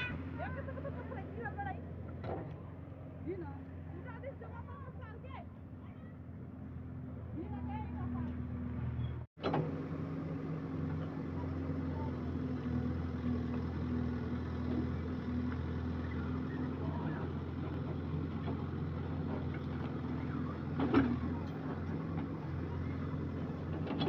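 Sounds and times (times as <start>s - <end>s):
engine humming steadily: 0.0s - 24.0s.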